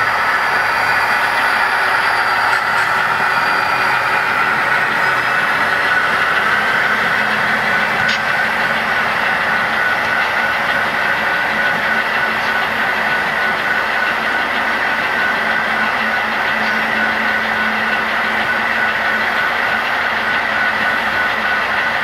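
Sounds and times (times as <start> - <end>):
high whine: 0.0 - 22.0
model train wheels rolling on rail: 0.0 - 22.0.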